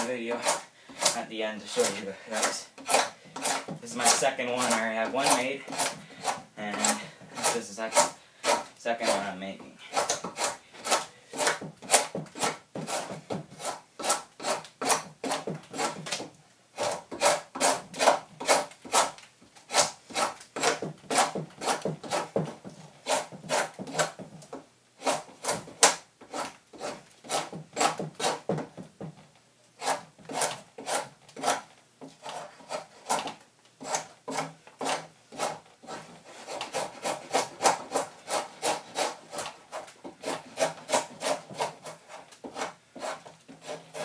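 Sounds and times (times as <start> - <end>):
drawknife scraping wood: 0.0 - 28.8, 29.8 - 44.0.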